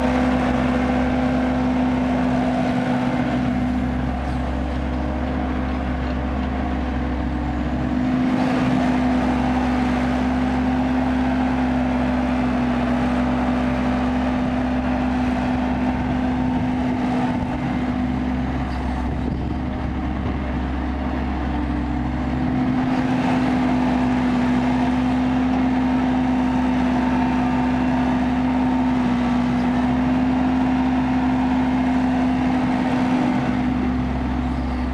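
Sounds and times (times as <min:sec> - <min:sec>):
excavator diesel engine rumbling: 0:00.0 - 0:34.9.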